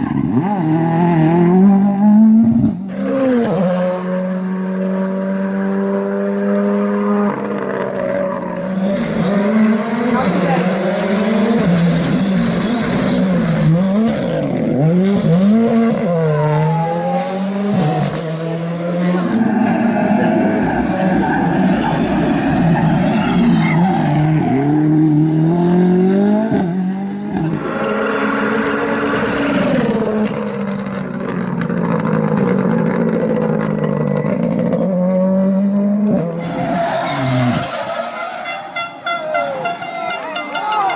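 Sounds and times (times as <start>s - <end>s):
rally car engine revving: 0.0s - 40.1s.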